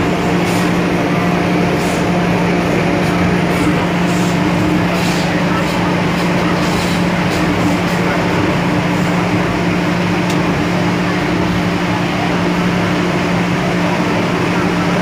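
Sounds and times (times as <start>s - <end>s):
train equipment low hum: 0.0s - 15.0s
train wheels rumbling on rail: 0.0s - 15.0s.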